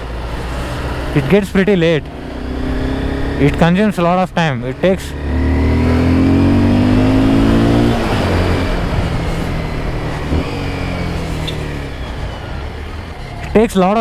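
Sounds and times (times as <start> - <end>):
motorcycle engine revving: 0.0 - 14.0
road and wind noise: 0.0 - 14.0.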